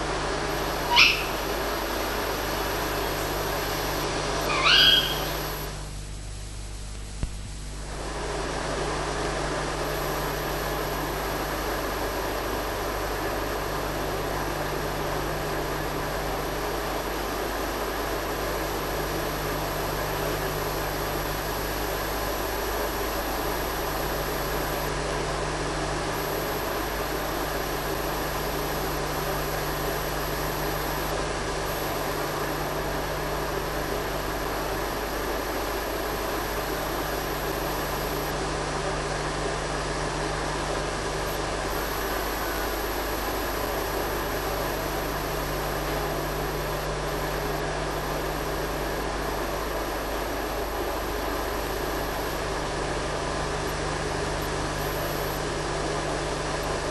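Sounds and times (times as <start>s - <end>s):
low electrical hum: 0.0s - 56.9s
steady hiss: 0.0s - 56.9s.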